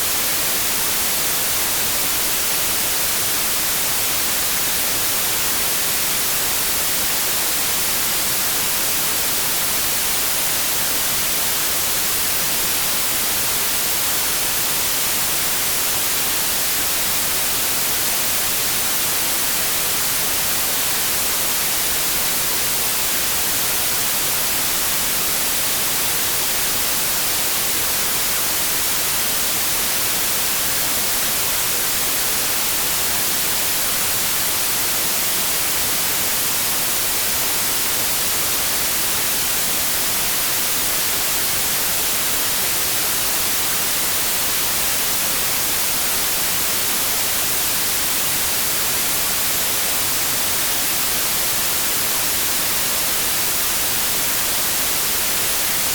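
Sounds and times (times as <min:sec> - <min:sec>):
white noise hiss: 0:00.0 - 0:55.9.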